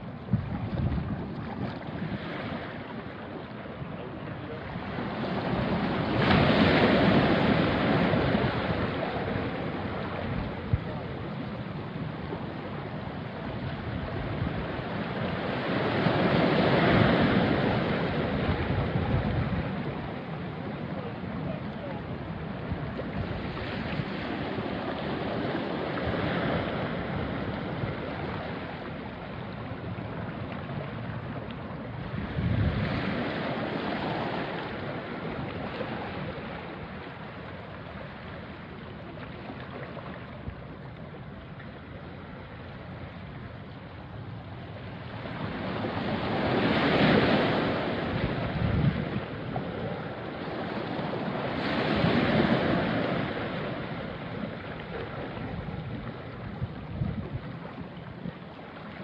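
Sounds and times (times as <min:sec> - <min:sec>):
waves washing onto rocky shore: 0:00.0 - 0:59.0.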